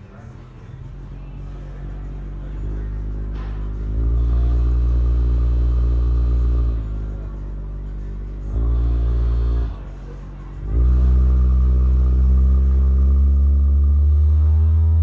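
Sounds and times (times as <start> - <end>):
speaker playing deep bass tone: 0.7 - 15.0.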